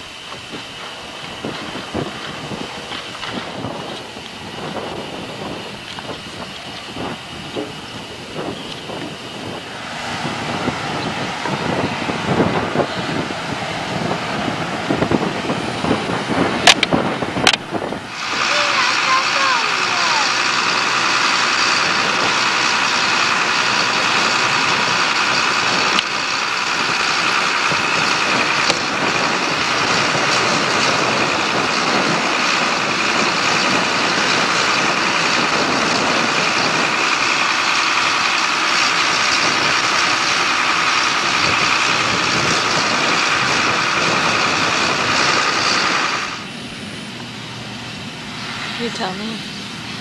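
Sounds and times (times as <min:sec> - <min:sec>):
heavy engine drone: 0:00.0 - 0:50.0
high whining tones: 0:00.0 - 0:50.0.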